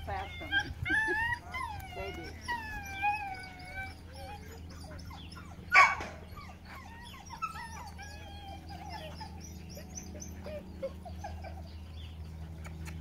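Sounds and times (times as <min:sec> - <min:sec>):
puppy whining: 0:00.0 - 0:13.0
small birds chirping: 0:00.0 - 0:13.0
dog yipping: 0:00.1 - 0:11.6.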